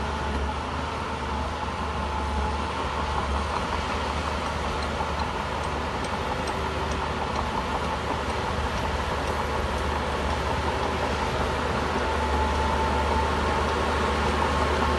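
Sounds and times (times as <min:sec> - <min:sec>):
bulldozer diesel engine running: 0:00.0 - 0:14.9.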